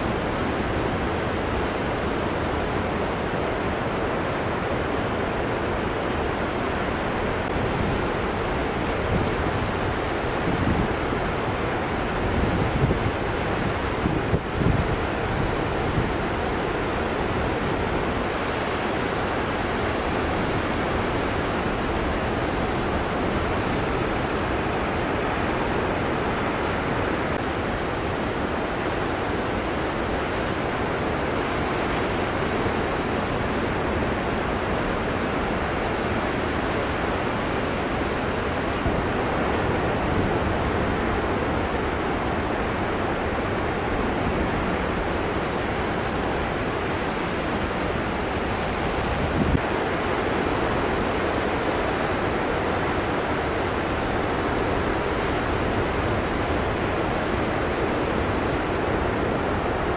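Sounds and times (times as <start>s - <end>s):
ocean surf breaking: 0.0s - 59.9s
wind on microphone: 0.0s - 59.9s.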